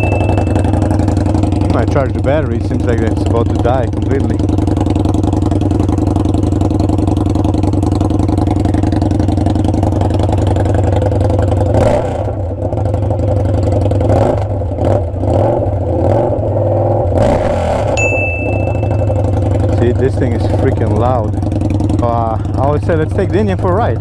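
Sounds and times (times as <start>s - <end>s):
motorcycle engine idling: 0.0s - 16.0s, 18.0s - 24.0s
motorcycle engine revving: 0.0s - 24.0s.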